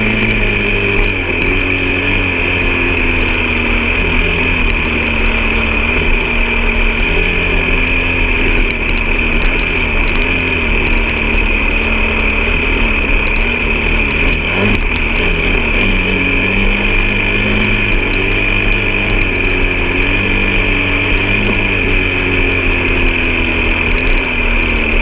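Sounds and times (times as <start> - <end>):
clicks and rattles: 0.0 - 16.0, 16.7 - 25.0
off-road vehicle engine running: 0.0 - 25.0.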